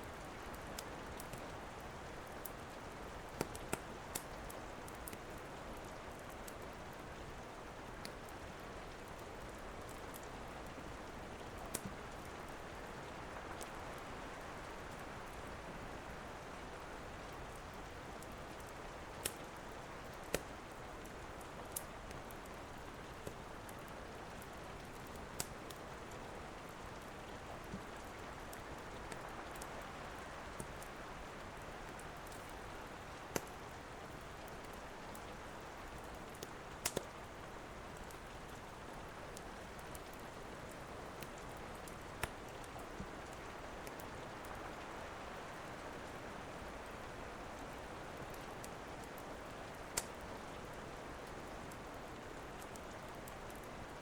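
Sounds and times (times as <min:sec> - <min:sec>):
rain hiss: 0:00.0 - 0:54.0
wood fire crackling: 0:00.0 - 0:54.0.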